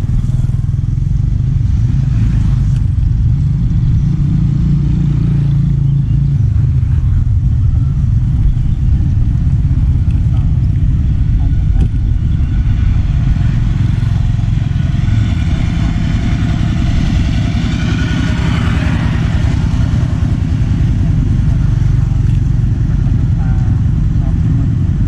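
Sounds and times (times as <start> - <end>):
low road rumble: 0.0 - 25.0
small motorcycle engine: 0.0 - 25.0.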